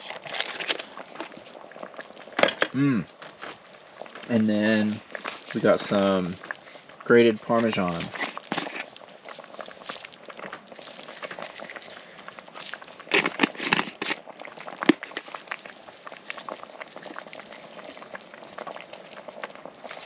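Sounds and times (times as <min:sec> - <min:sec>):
sauce bubbling in a pan: 0:00.0 - 0:20.0.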